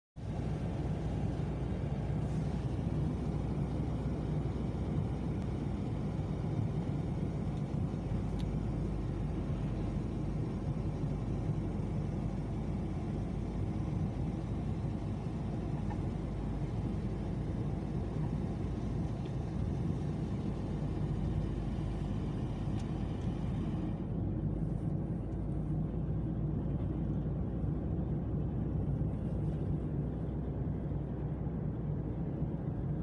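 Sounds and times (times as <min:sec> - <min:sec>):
car engine and tyre noise: 0:00.2 - 0:33.0.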